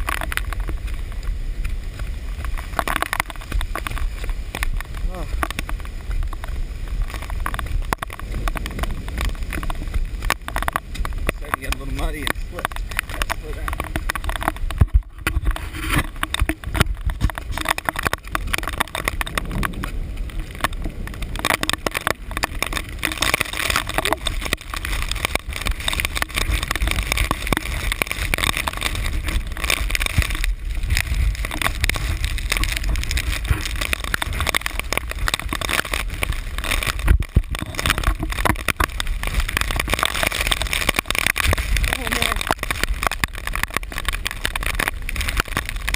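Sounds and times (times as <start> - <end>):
camera handling rumble: 2.4 - 45.9.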